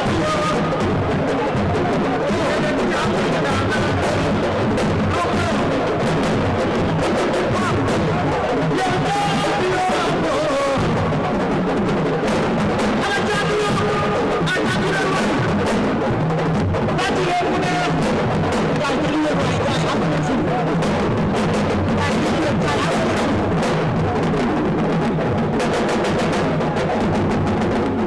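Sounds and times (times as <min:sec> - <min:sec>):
dense continuous drumming: 0:00.0 - 0:28.0.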